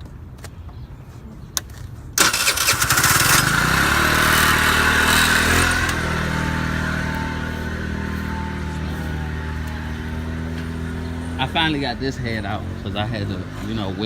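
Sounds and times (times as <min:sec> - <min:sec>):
vehicle engine starting and idling: 0:02.2 - 0:14.0.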